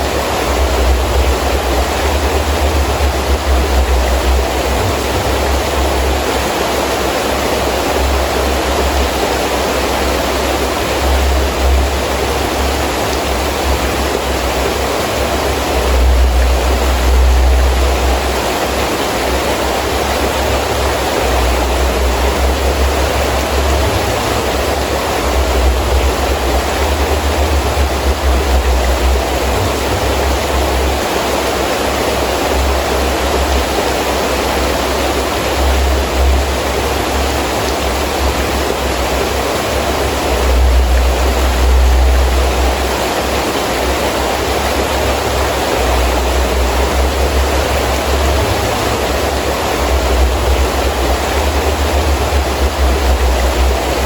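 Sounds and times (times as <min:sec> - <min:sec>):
heavy rain pouring: 0:00.0 - 0:54.0
wind gusts rumbling: 0:00.0 - 0:54.0.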